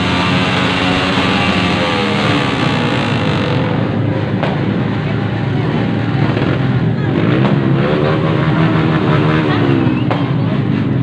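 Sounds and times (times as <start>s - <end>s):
motorcycles revving: 0.0s - 11.0s.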